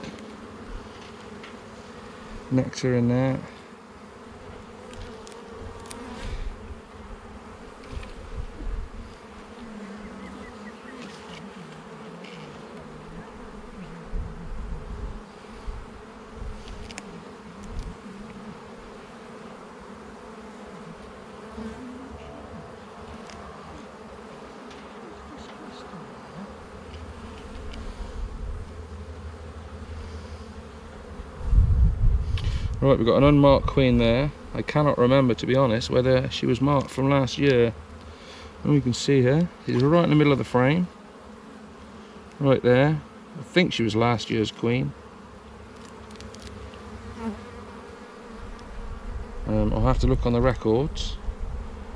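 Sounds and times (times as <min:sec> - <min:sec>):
honeybees buzzing: 0:00.0 - 0:51.9.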